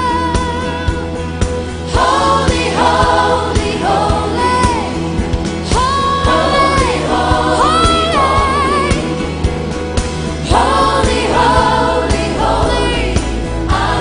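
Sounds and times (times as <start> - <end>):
gospel singing with vibrato: 0.0 - 14.0
steady bass line: 0.0 - 14.0.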